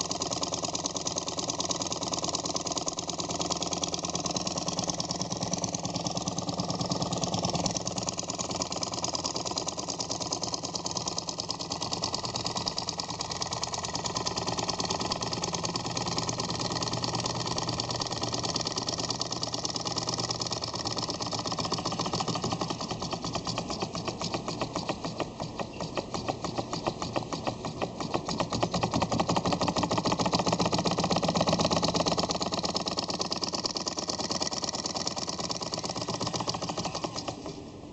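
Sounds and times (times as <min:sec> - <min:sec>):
stirling engine clattering: 0:03.5 - 0:37.7.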